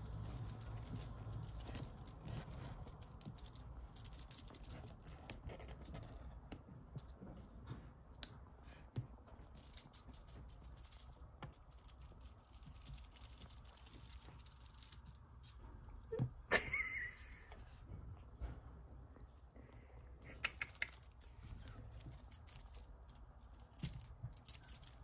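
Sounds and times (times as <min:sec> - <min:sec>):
kittens scratching and rustling: 0:00.0 - 0:16.2, 0:20.2 - 0:25.0.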